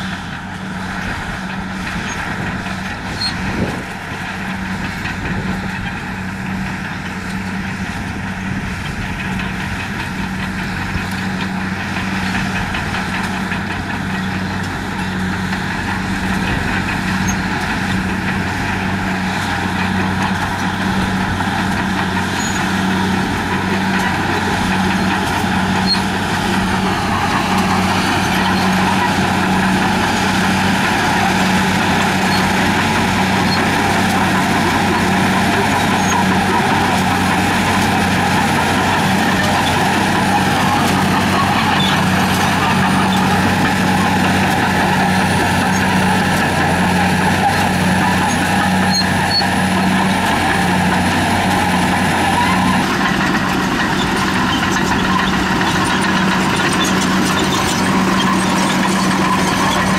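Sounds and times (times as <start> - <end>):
bulldozer diesel engine: 0.0 - 59.9.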